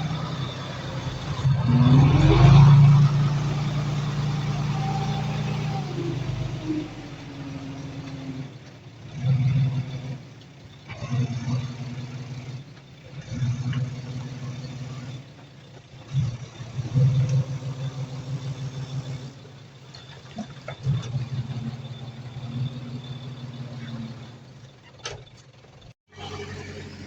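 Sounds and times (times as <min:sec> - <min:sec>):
diesel engine revving under load: 0:00.0 - 0:27.0.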